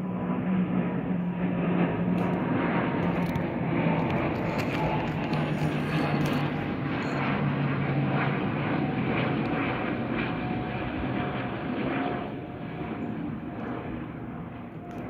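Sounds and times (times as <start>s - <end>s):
aircraft engine drone overhead: 0.0s - 15.0s.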